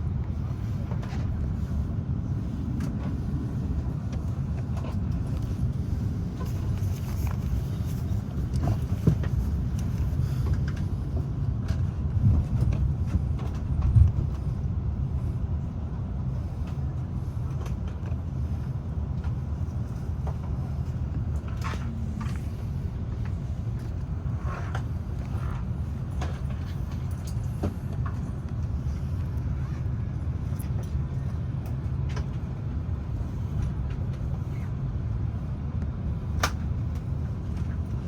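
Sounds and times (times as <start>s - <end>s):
airliner cabin engine rumble: 0.0s - 38.0s.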